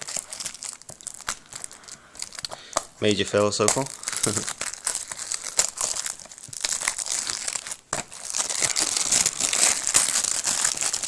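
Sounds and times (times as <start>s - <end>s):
plastic wrap crinkling and tearing: 0.0s - 11.0s.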